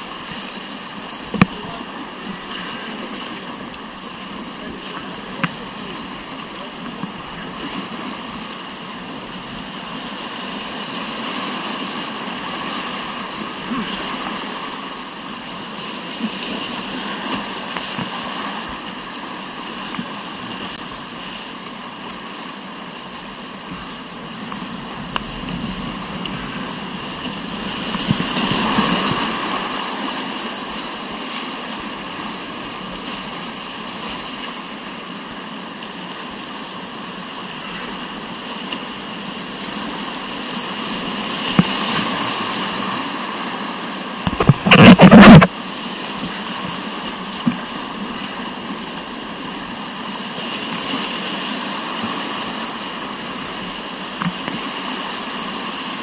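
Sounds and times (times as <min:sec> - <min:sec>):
whitewater river rushing: 0:00.0 - 0:56.0.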